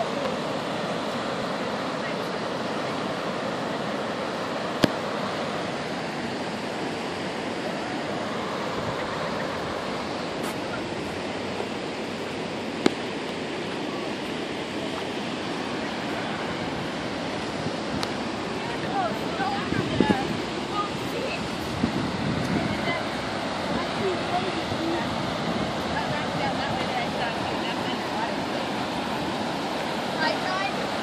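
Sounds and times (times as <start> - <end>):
whitewater rushing over rapids: 0.0 - 31.0.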